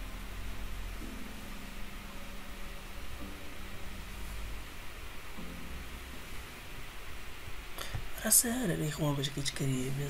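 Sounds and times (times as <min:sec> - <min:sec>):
room tone hiss and rumble: 0:00.0 - 0:10.0.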